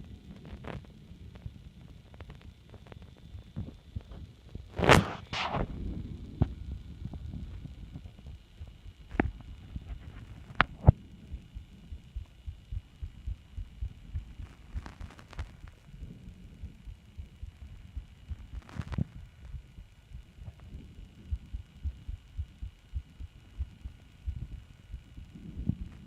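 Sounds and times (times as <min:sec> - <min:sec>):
heartbeat: 0:02.2 - 0:26.0.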